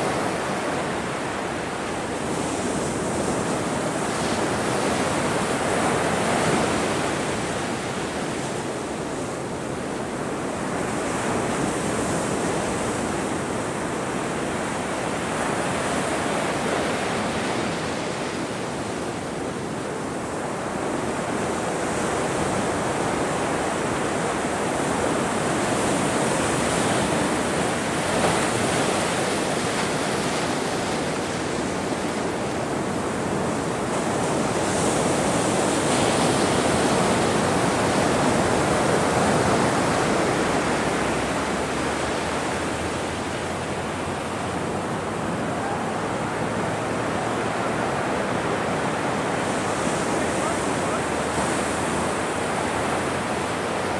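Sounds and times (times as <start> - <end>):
ocean waves breaking: 0.0 - 53.9.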